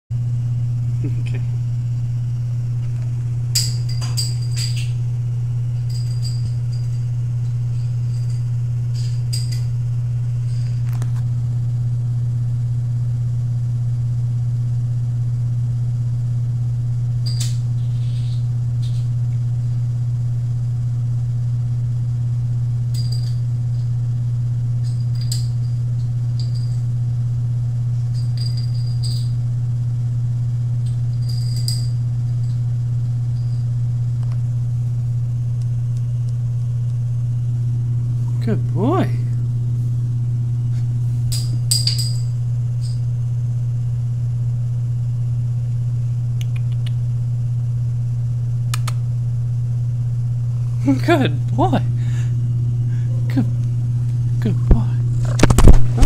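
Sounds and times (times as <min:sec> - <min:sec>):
steady low hum: 0:00.1 - 0:56.0.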